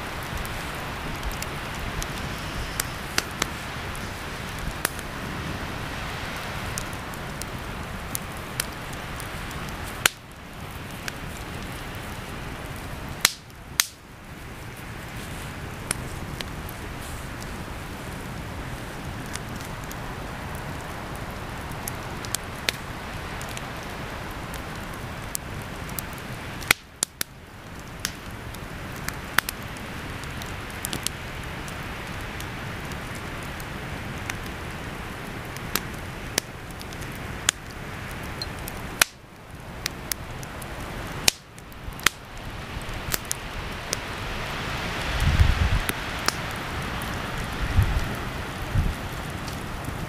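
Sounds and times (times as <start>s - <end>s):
burning logs popping and crackling: 0.0s - 50.0s
campfire hissing: 0.0s - 50.0s.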